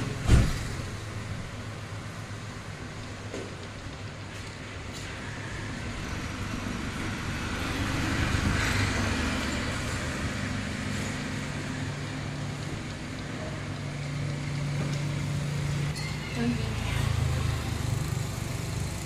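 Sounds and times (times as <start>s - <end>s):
road traffic engine hum: 0.0s - 19.0s.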